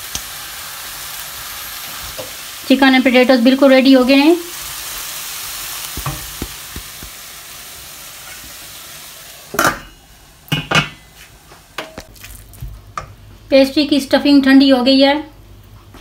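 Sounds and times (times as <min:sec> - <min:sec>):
food sizzling in a pan: 0:00.0 - 0:13.2.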